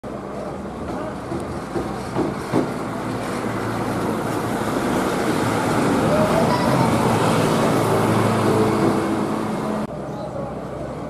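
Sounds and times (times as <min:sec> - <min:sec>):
road traffic: 0:00.0 - 0:11.0
heavy truck passing close: 0:00.1 - 0:11.0.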